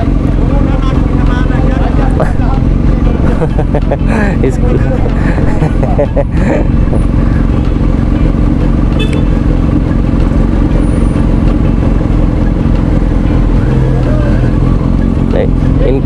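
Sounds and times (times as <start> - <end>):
lower engine note: 0.0 - 16.0
motorcycle engine idling: 0.0 - 16.0.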